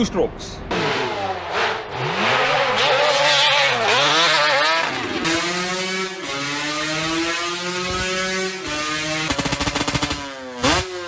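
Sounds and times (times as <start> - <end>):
dirt bike engine revving: 0.7 - 11.0
motorcycle engine at high rev: 0.7 - 11.0.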